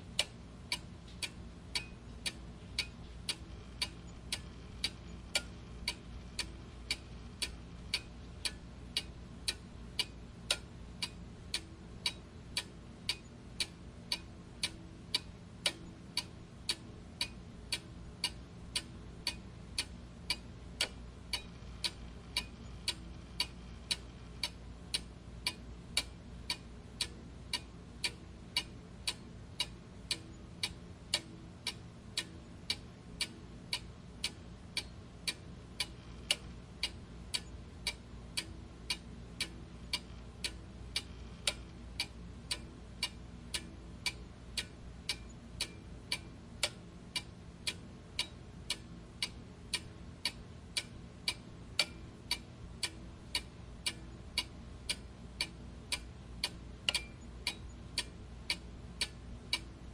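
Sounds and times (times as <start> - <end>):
low background hum: 0.0 - 59.9
clock ticking: 0.1 - 59.9.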